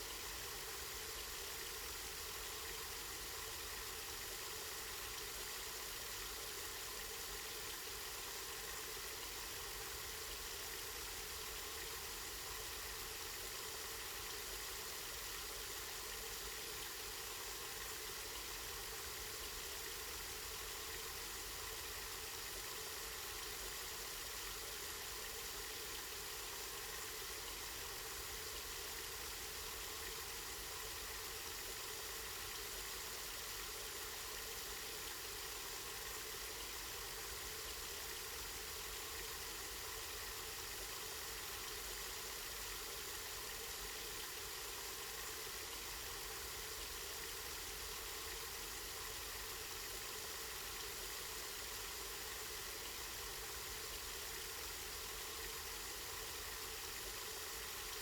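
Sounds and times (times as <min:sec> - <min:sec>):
water flowing from spring: 0:00.0 - 0:58.0.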